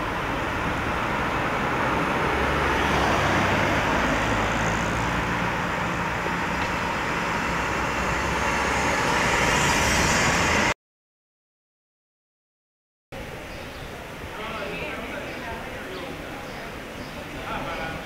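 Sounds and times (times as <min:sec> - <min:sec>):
street traffic: 0:00.0 - 0:10.8, 0:13.2 - 0:18.0.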